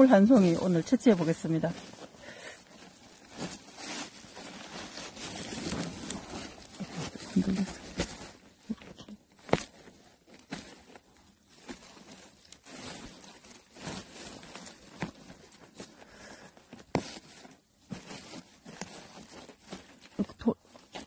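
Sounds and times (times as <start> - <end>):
pine needles and soil rustling: 0.0 - 21.0.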